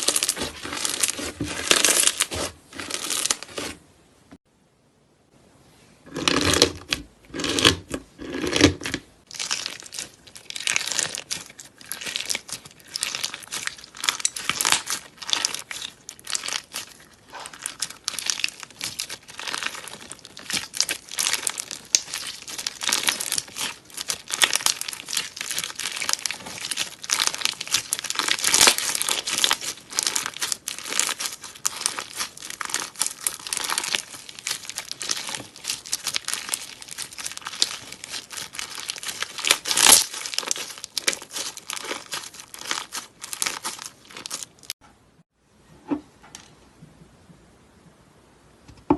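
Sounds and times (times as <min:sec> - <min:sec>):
slime crackling and popping: 0:00.0 - 0:03.7, 0:08.6 - 0:44.8.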